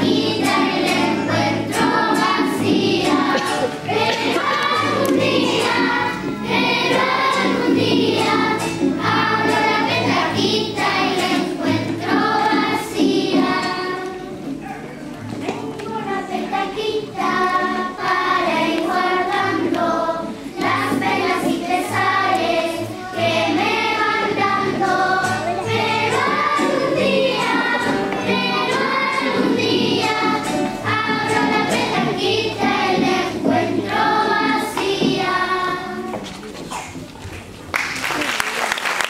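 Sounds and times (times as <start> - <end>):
children's choir singing: 0.0 - 14.7, 15.4 - 36.8.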